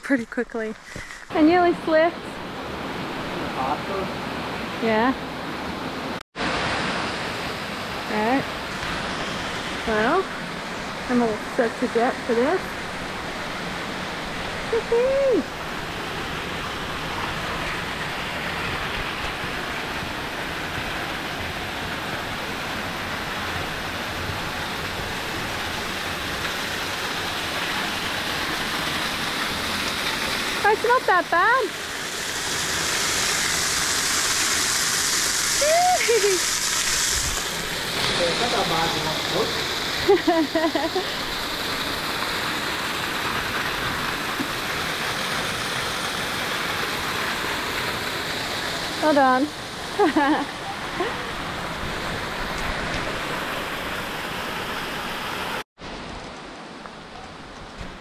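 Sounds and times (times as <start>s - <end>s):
waterfall rushing: 1.3s - 57.4s.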